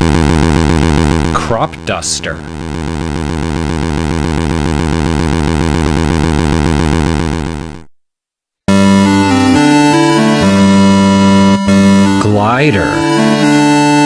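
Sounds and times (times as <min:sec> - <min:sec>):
held synthesizer notes: 0:00.0 - 0:07.9, 0:08.7 - 0:14.0
pulsing synthesized drone: 0:00.0 - 0:07.9, 0:08.7 - 0:14.0.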